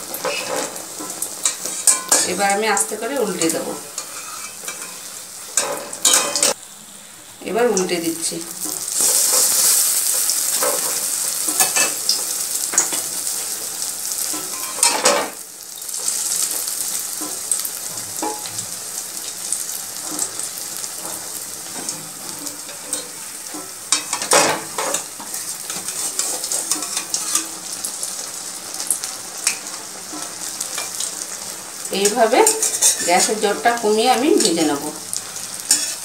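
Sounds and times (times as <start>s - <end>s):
frying oil sizzling and crackling: 0.0s - 36.0s.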